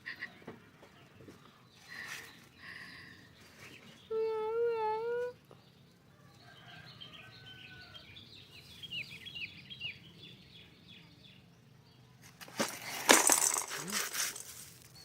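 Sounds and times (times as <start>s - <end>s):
faint bird chirping: 0.0s - 13.1s.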